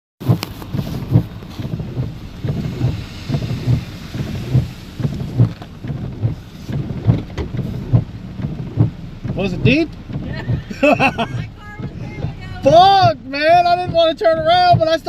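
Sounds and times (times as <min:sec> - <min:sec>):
heavy rain: 0:00.2 - 0:15.0
low thumps and rumbling: 0:00.2 - 0:15.0.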